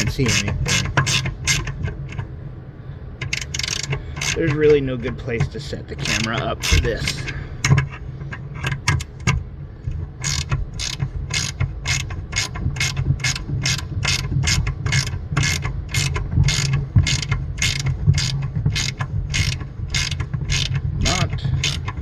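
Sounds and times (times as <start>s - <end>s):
ratchet wrench clicking: 0.0s - 2.2s, 3.2s - 4.7s, 6.0s - 22.0s
steady low hum: 0.0s - 22.0s.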